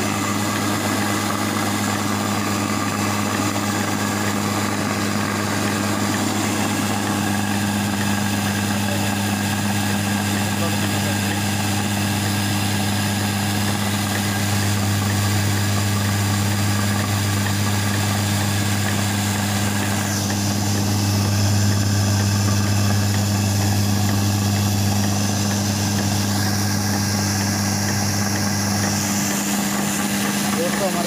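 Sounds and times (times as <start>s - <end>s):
stone flour mill humming: 0.0s - 31.0s.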